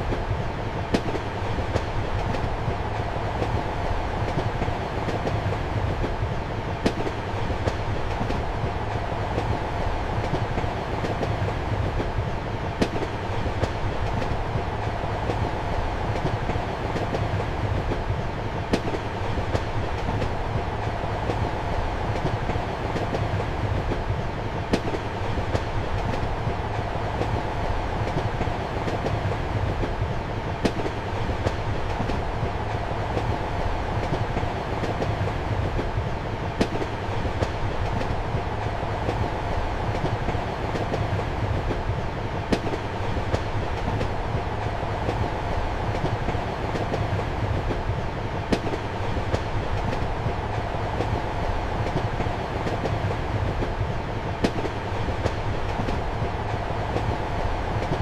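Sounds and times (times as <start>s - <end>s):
train rumble and hum: 0.0s - 58.0s.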